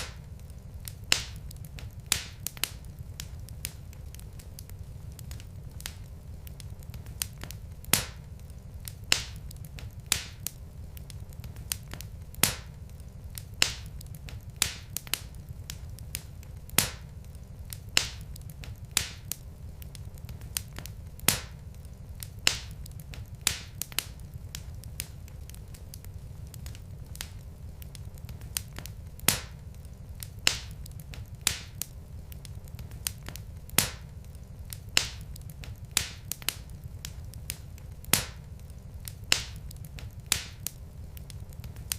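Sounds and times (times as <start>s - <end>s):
log fire crackling: 0.0s - 41.9s
steady low rumble: 0.0s - 41.9s.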